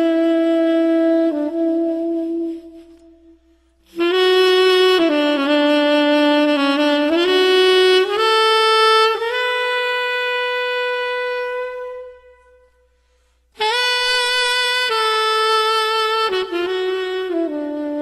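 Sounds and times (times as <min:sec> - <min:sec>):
slow solo instrumental music: 0:00.0 - 0:18.0.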